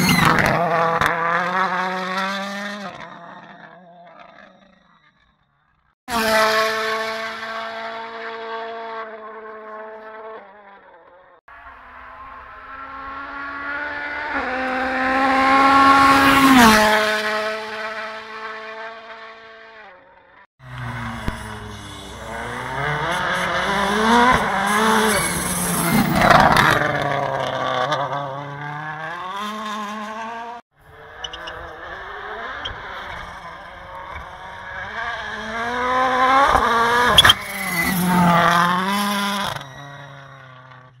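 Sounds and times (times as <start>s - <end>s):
rally car engine at full throttle: 0.0s - 5.3s, 6.1s - 41.0s.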